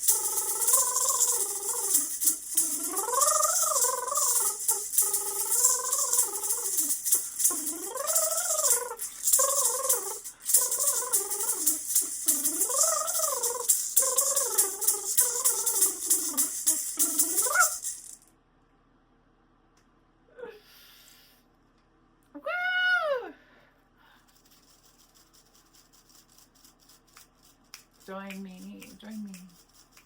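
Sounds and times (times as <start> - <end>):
shaken rattle: 0.0 - 18.3, 24.2 - 30.0.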